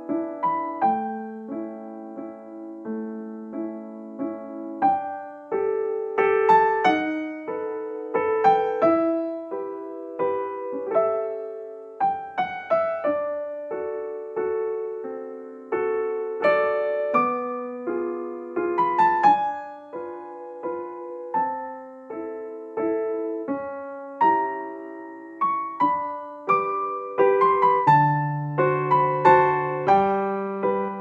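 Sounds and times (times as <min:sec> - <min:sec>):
slow gentle piano music: 0:00.0 - 0:31.0.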